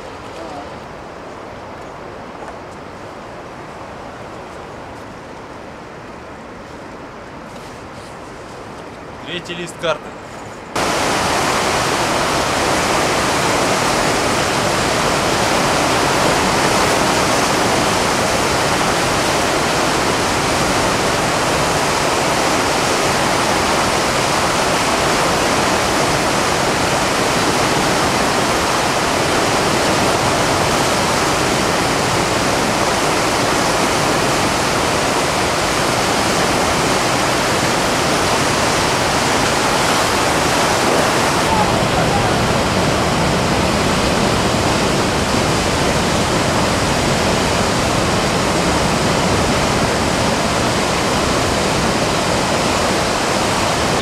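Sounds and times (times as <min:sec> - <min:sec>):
whitewater rushing over boulders: 0:10.7 - 0:54.0.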